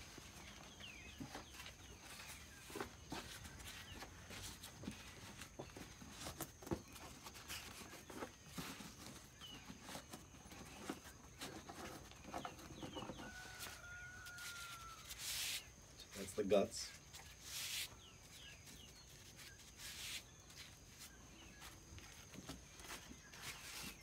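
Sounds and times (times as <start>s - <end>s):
tobacco leaves rustling: 0.0s - 24.0s.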